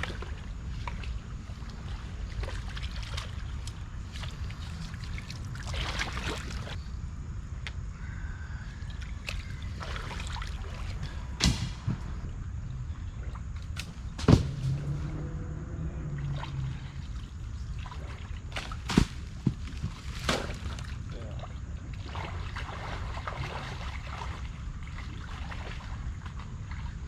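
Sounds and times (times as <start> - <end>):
river water splashing: 0.0 - 6.8, 8.8 - 12.2, 13.0 - 27.0
steady low rumble: 0.0 - 27.0.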